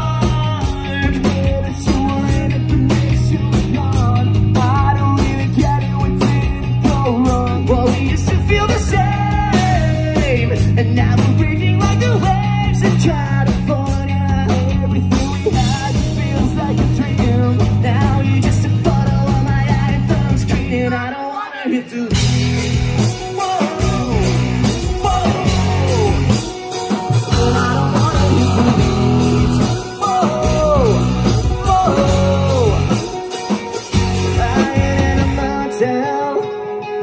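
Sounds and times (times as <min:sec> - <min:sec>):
person singing into microphone: 0:00.0 - 0:22.3, 0:23.0 - 0:33.5, 0:34.1 - 0:37.0
drums: 0:00.0 - 0:37.0
electric guitars: 0:00.0 - 0:37.0.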